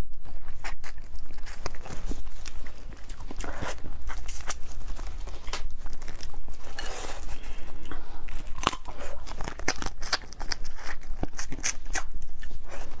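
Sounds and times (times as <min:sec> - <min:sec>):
soft chewing: 0:00.0 - 0:13.0
crab shell crunching: 0:00.1 - 0:12.6.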